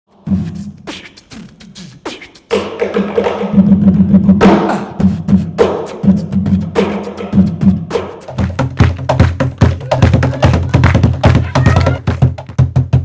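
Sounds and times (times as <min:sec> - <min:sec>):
beatboxing: 0:00.1 - 0:12.3.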